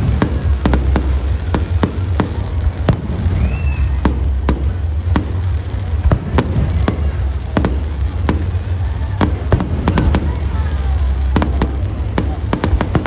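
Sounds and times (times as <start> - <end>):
continuous low rumble: 0.0 - 13.0
fireworks bursting with sharp bangs: 0.0 - 13.0.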